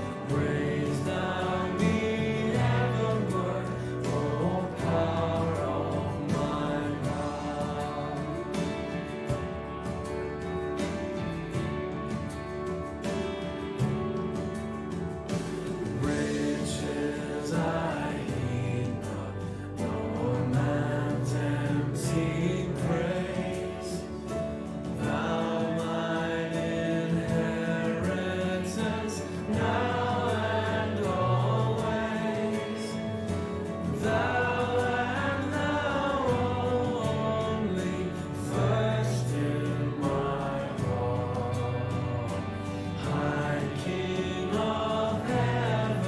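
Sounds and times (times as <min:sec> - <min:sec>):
congregation singing a hymn: 0:00.0 - 0:46.0
instrumental accompaniment: 0:00.0 - 0:46.0
sustained low chords: 0:00.0 - 0:46.0.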